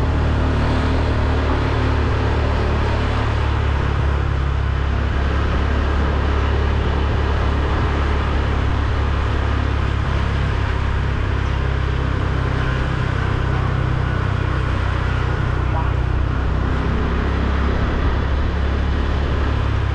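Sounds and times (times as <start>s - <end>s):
motorbike engine rumbling: 0.0s - 19.9s
road noise: 0.0s - 19.9s.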